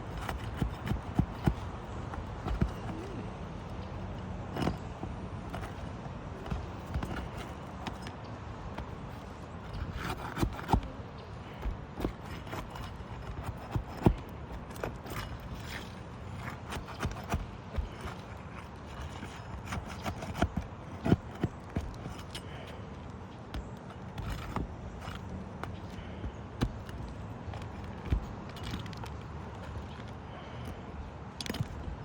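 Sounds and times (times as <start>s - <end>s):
hand tool prying nails: 0.0s - 30.8s.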